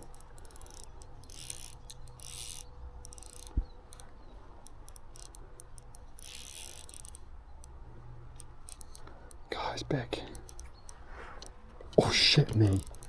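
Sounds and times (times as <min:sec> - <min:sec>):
fly reel drag clicking: 0:00.0 - 0:09.5, 0:10.1 - 0:13.0.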